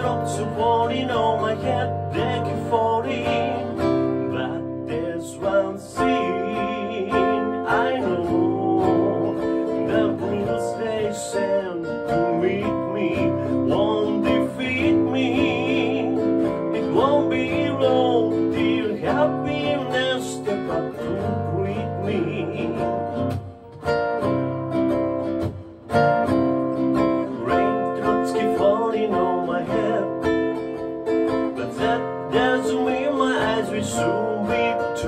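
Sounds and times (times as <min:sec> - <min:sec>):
man singing: 0:00.0 - 0:23.3, 0:26.8 - 0:35.0
nylon-string guitar chords: 0:00.0 - 0:35.0.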